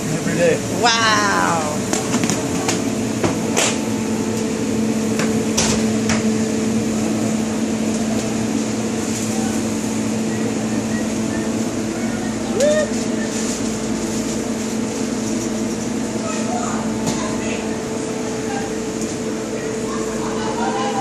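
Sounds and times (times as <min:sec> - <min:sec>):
kitchen equipment humming: 0:00.0 - 0:21.0.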